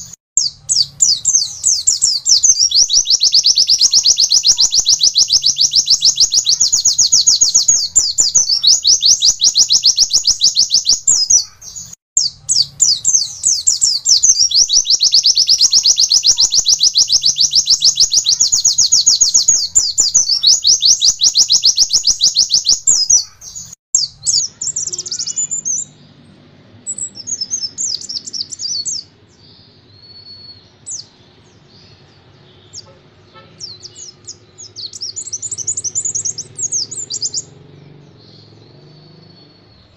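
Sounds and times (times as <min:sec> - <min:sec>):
bird singing rapid high notes: 0:00.0 - 0:26.1, 0:26.9 - 0:39.9
bird chirping: 0:00.0 - 0:39.9.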